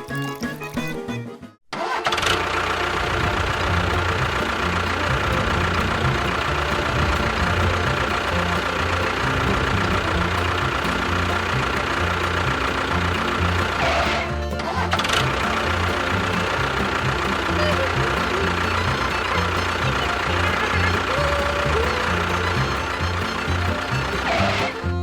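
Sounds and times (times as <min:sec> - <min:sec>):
small motor chugging and whining: 0:02.0 - 0:25.0.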